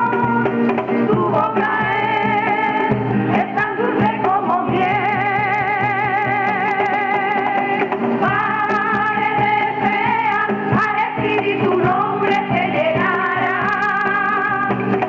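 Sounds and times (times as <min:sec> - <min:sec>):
strummed guitar: 0:00.0 - 0:15.0
women's choir singing: 0:01.1 - 0:14.7.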